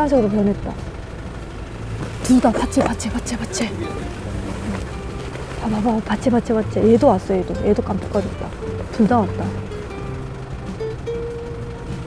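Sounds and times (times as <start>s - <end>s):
background music held notes: 0.0s - 12.0s
low hum: 0.0s - 12.0s.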